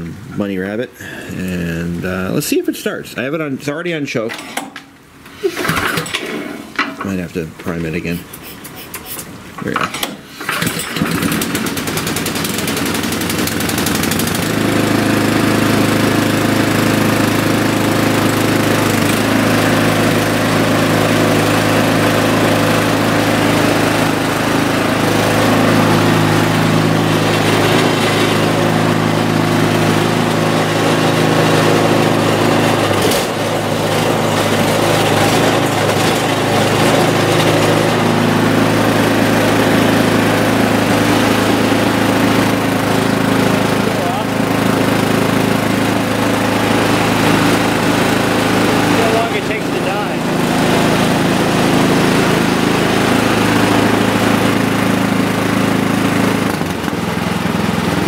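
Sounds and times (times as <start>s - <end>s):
small gas engine running: 5.3s - 7.2s, 8.0s - 58.0s.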